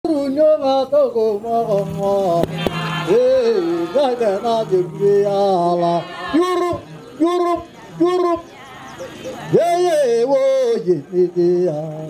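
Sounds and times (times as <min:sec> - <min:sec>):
men singing together: 0:00.1 - 0:12.0.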